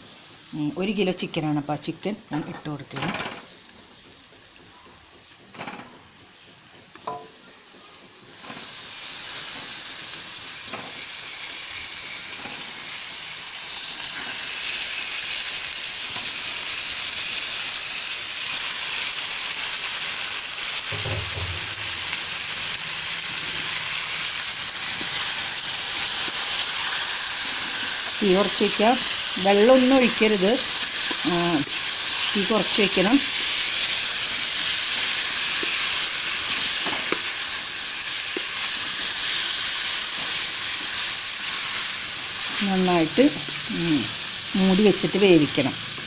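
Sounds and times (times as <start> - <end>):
chicken sizzling in a pan: 0.0 - 2.2, 3.4 - 46.0.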